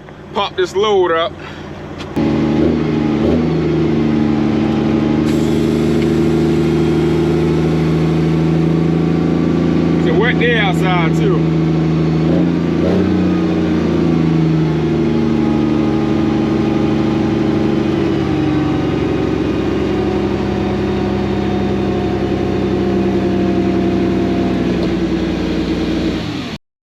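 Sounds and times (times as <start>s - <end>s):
diesel truck engine under load: 0.0s - 26.6s.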